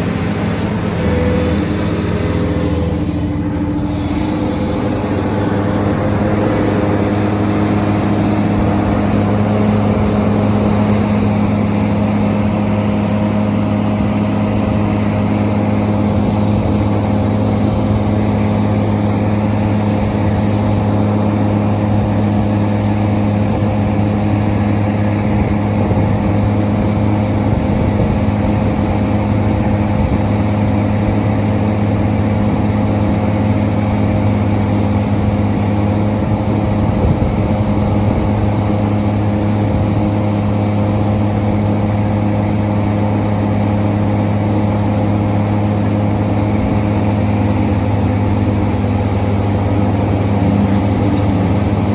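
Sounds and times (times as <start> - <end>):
excavator machine hum: 0.0 - 51.9.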